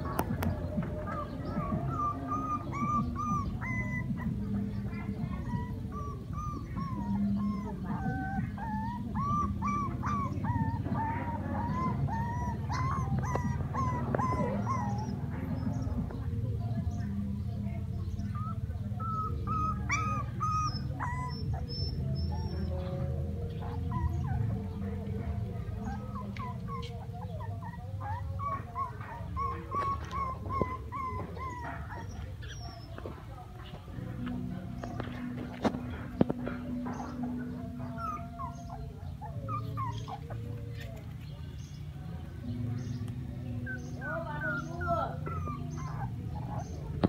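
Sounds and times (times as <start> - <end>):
puppy whining: 0.0 - 17.0, 18.1 - 33.5, 34.7 - 41.8, 42.8 - 47.0.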